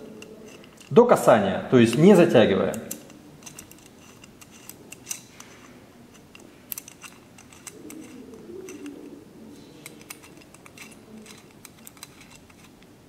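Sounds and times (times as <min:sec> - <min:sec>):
hex key turning metal screws: 0:00.0 - 0:01.0, 0:01.9 - 0:09.2, 0:09.8 - 0:13.0.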